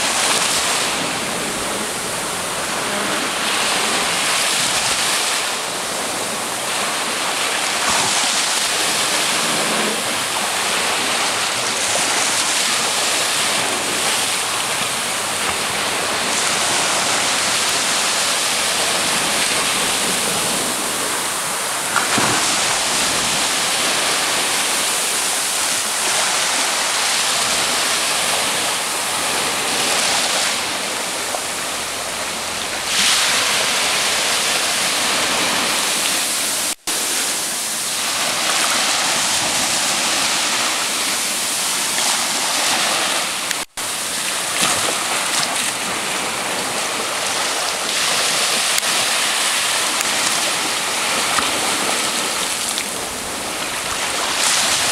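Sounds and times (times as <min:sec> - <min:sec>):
sea waves breaking on shore: 0:00.0 - 0:54.9.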